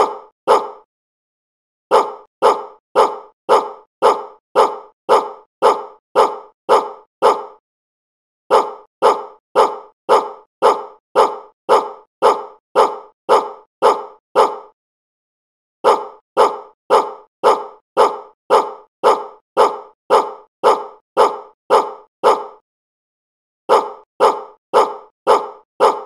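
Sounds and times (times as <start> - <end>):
dog barking: 0.0 - 0.9, 1.9 - 7.6, 8.5 - 14.8, 15.8 - 22.6, 23.7 - 26.0.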